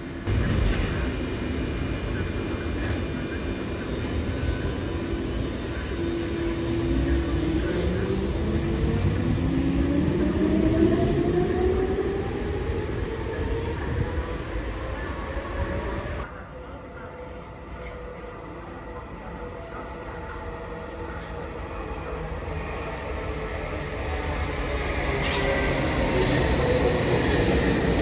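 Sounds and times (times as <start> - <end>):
train rolling rumble: 0.0 - 18.1, 18.7 - 28.0.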